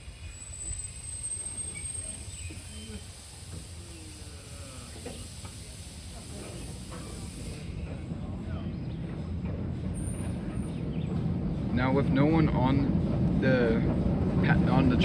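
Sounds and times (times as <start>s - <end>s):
miniature train rumbling: 0.0s - 15.0s.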